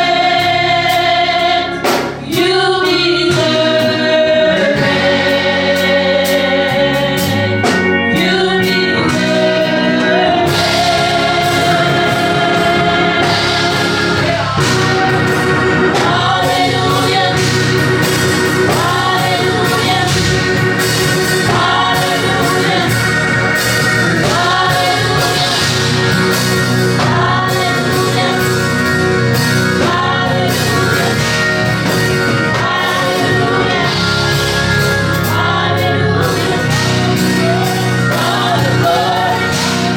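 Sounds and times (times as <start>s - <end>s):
choir singing gospel music: 0.0s - 39.9s.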